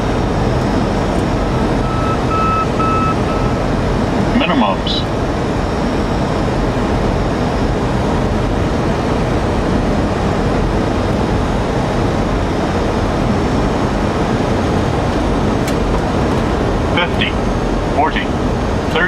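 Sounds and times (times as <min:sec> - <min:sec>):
aircraft engine noise: 0:00.0 - 0:19.0.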